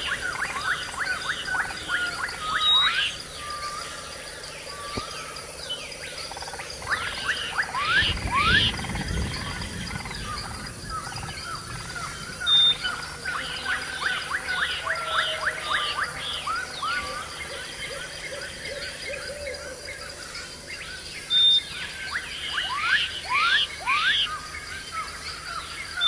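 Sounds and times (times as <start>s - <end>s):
steady high-pitched whine: 0.0s - 26.0s.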